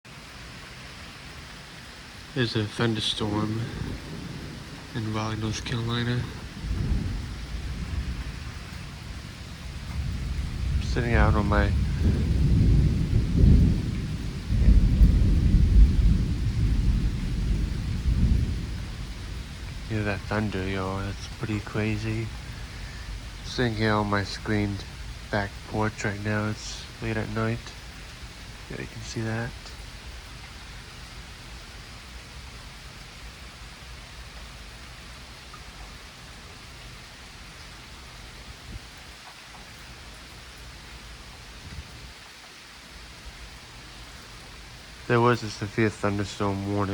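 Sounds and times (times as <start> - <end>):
steady falling rain: 0.0 - 46.9
thunder rumbling: 2.1 - 39.1, 40.8 - 42.2, 43.0 - 46.9.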